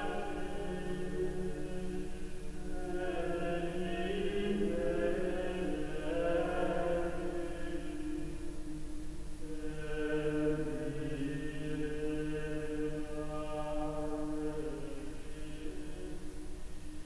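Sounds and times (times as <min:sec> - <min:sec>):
choir singing slow chant: 0:00.0 - 0:17.0.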